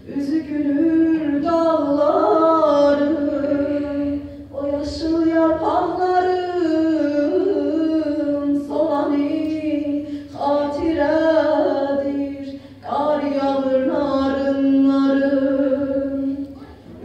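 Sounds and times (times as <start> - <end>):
woman singing unaccompanied: 0.0 - 16.6.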